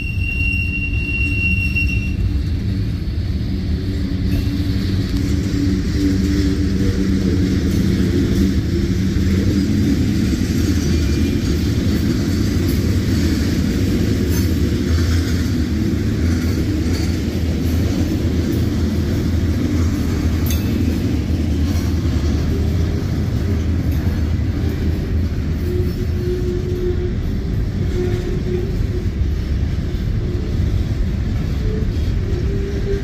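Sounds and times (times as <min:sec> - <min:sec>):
freight cars rumbling on rails: 0:00.0 - 0:33.0.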